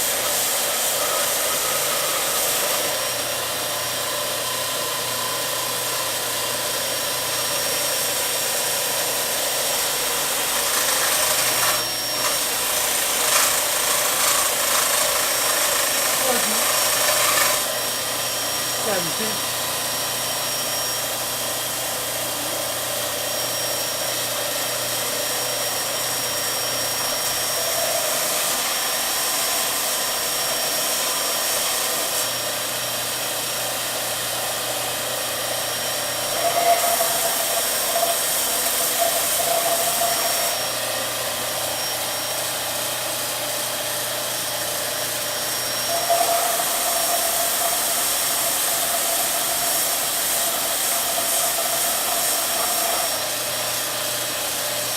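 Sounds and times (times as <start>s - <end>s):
electric sander on wood: 0.0s - 54.9s.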